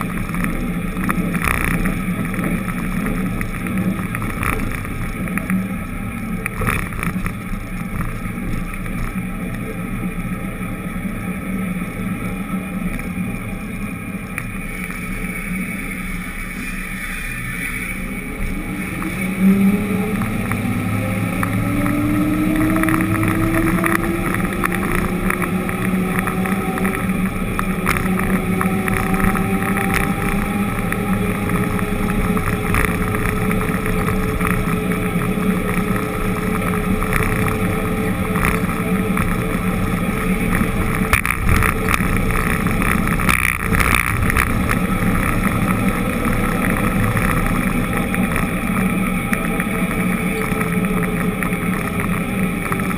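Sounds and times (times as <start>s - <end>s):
vehicle engine accelerating: 0.0s - 52.9s.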